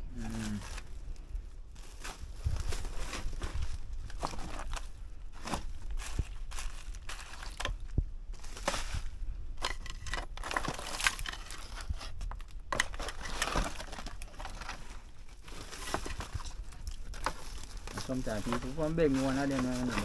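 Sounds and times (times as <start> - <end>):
rustling and crinkling: 0.0 - 20.0.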